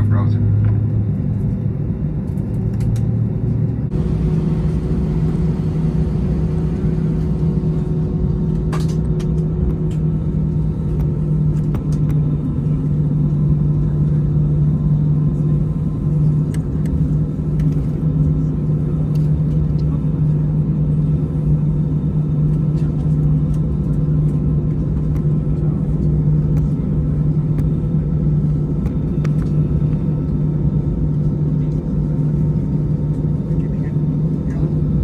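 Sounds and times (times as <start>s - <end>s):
airliner engines droning: 0.0s - 35.0s.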